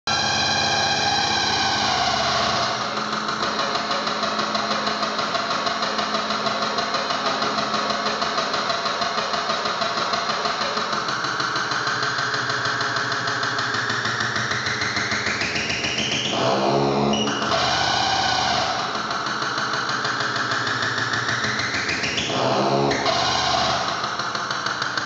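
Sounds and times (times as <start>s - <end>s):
pulsing electronic drone: 0.1s - 25.0s.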